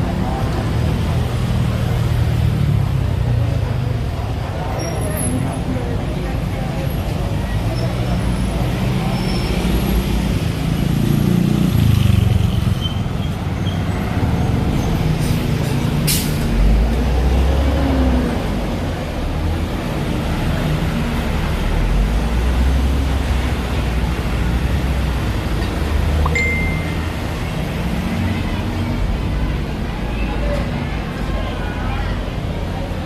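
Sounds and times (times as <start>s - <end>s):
vehicle engines passing: 0.0s - 33.0s.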